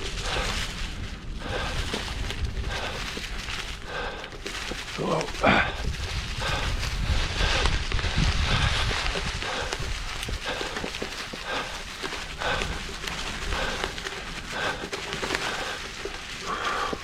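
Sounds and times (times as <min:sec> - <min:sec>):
bike tyres crackling on trail: 0:00.0 - 0:17.0
person breathing hard: 0:00.0 - 0:17.0.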